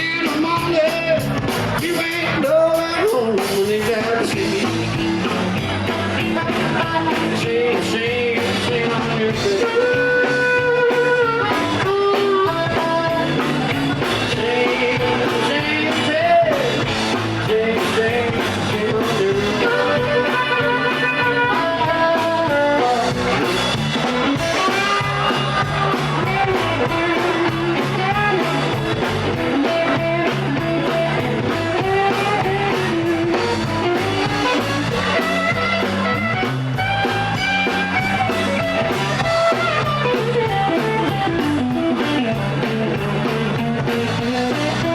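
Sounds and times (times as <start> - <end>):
bending lead guitar melody: 0.0 - 44.9
live electric blues band: 0.0 - 44.9.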